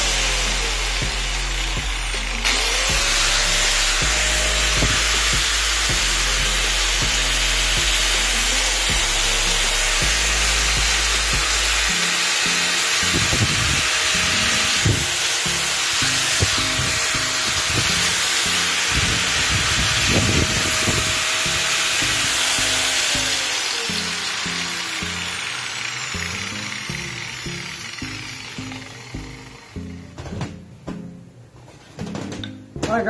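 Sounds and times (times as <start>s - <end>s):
angle grinder motor whirring: 0.0s - 30.1s
music: 0.0s - 33.0s.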